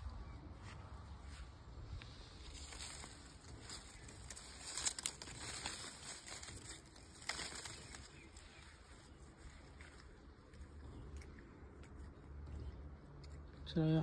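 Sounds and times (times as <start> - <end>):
leaves and twigs rustling: 0.0 - 12.2.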